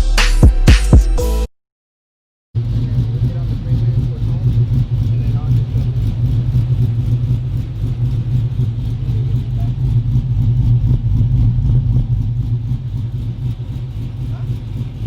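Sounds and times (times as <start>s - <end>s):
vehicle engine deep rumble: 2.6s - 15.0s.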